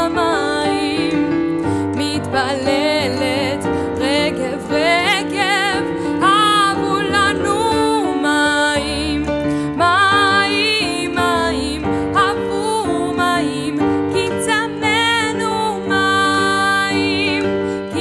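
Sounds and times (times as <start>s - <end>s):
piano chords: 0.0s - 18.0s
woman singing with vibrato: 0.0s - 18.0s.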